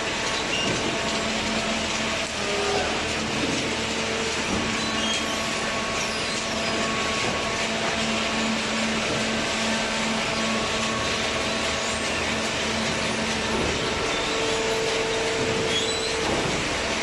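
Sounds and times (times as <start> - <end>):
baling machine whirring: 0.0 - 17.0.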